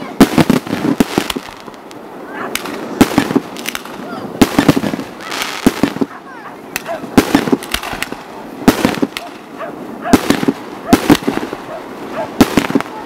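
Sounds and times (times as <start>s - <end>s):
firework crackles: 0.0s - 13.0s
firework shells bursting: 0.2s - 11.7s, 12.3s - 13.0s.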